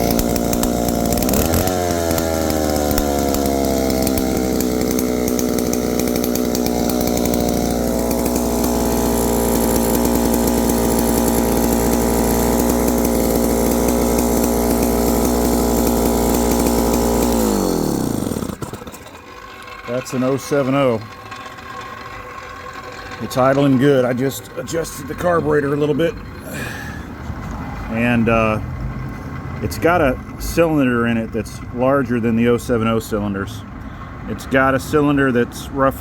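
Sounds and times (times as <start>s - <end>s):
chainsaw winding down: 0.0s - 32.7s
chainsaw idling: 0.0s - 35.2s.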